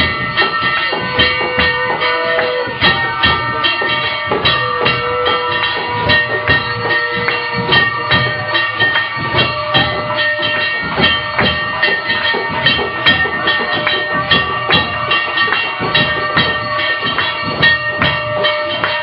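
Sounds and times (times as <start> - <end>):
struck drums or cymbals beat: 0.0 - 19.0
temple bells ringing: 0.0 - 19.0.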